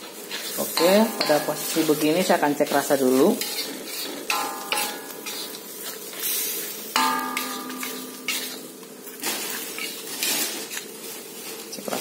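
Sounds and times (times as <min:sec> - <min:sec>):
metal spatula scraping wok: 0:00.0 - 0:11.6
food sizzling: 0:00.0 - 0:12.0
wok clanging and ringing: 0:00.6 - 0:10.7.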